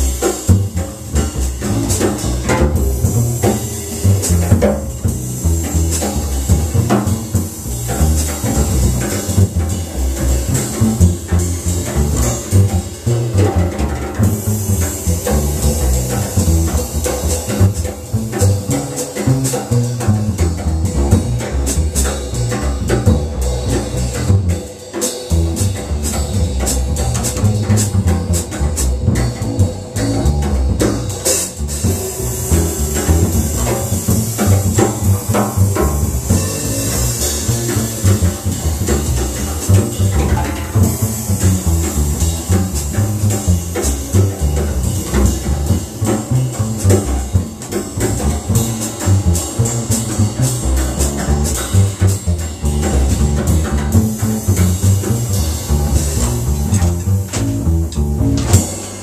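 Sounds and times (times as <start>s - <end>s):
jazz drum kit with cymbals: 0.0s - 59.0s
plucked double bass: 0.0s - 59.0s.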